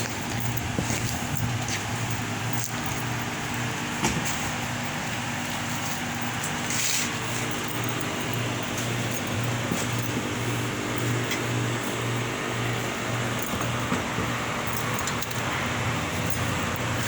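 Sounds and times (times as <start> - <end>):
air conditioner hum: 0.0 - 17.0
condenser fan rushing: 0.0 - 17.0.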